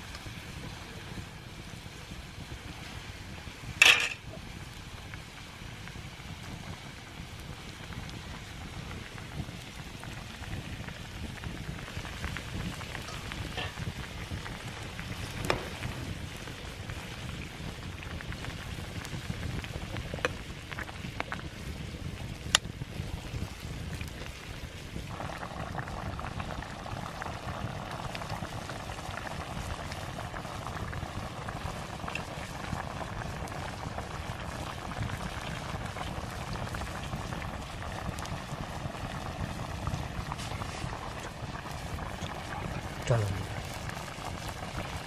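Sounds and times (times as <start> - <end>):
curry bubbling at the boil: 0.0 - 45.0.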